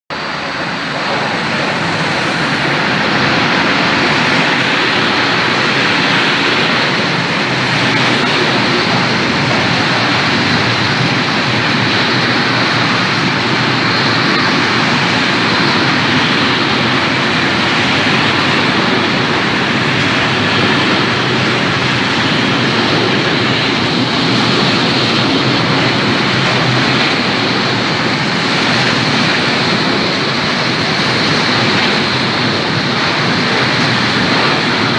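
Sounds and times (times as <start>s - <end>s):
freight train wheels on rails: 0.1s - 34.9s.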